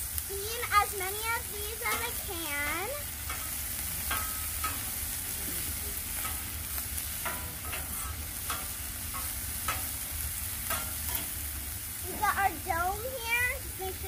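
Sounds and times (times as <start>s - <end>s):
vegetables sizzling on a griddle: 0.0s - 14.0s.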